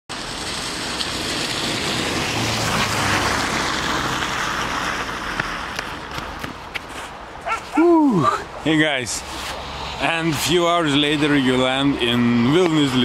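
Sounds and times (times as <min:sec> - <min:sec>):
passing vehicle rushing: 0:00.1 - 0:13.0.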